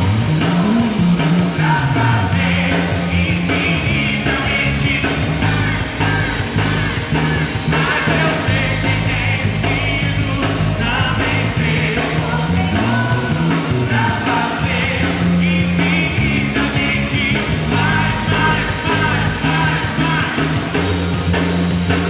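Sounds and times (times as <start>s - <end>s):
electric bass line: 0.0s - 22.0s
live band playing: 0.0s - 22.0s
person singing: 1.4s - 21.0s.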